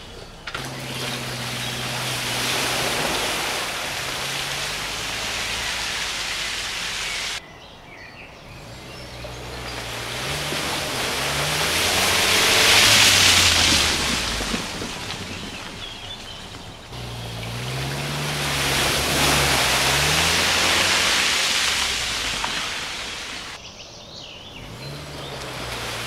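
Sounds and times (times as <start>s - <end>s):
car engine pulling under load: 0.0s - 7.4s, 8.4s - 23.6s, 24.4s - 26.0s
tyres splashing through mud: 0.0s - 7.4s, 8.4s - 23.6s, 24.5s - 26.0s.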